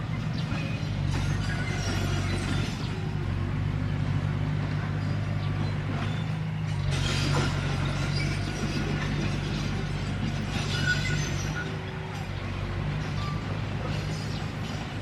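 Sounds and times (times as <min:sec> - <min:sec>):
bulldozer diesel engine: 0:00.0 - 0:15.0
metallic track clanking: 0:00.0 - 0:15.0.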